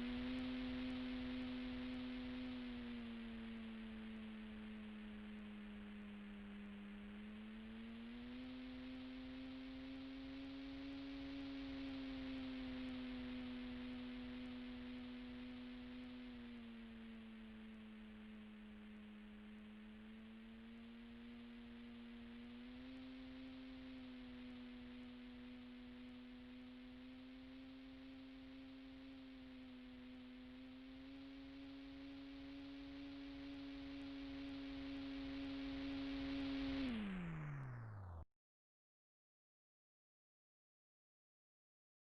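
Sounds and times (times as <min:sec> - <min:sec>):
model plane motor humming: 0:00.0 - 0:38.2.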